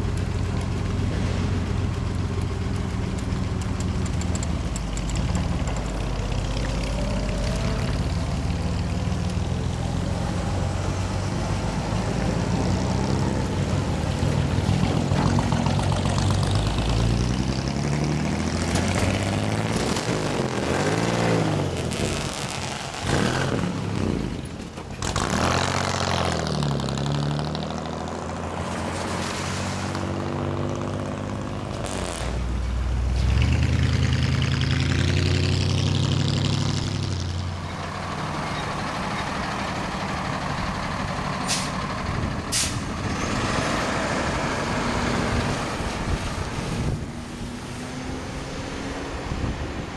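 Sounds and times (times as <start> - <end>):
cars driving past: 4.6 - 49.9.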